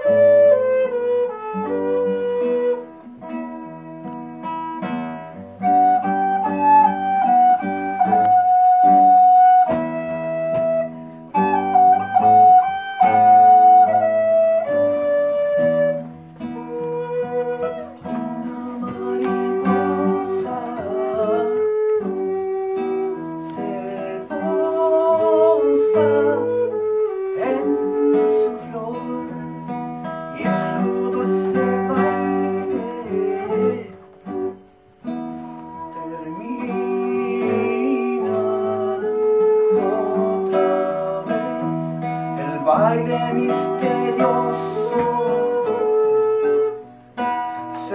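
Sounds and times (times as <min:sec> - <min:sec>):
plucked acoustic guitar: 0:00.0 - 0:47.9
sustained melody line: 0:00.0 - 0:47.9.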